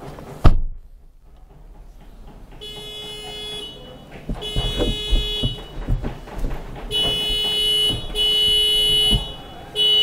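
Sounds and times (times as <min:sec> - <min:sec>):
car door slamming: 0:00.4 - 0:00.9, 0:02.2 - 0:10.0.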